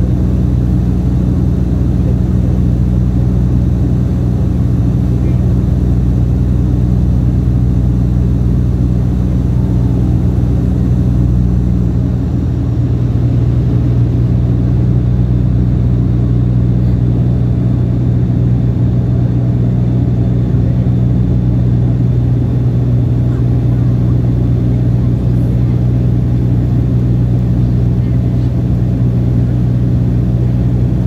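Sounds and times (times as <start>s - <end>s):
airliner cabin engine drone: 0.0s - 31.0s.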